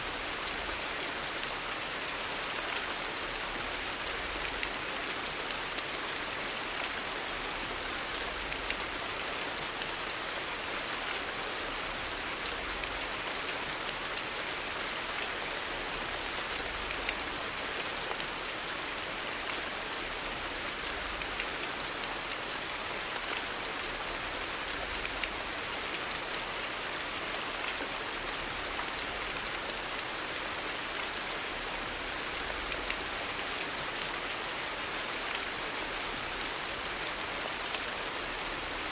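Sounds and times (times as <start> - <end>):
rain on street: 0.0 - 38.9.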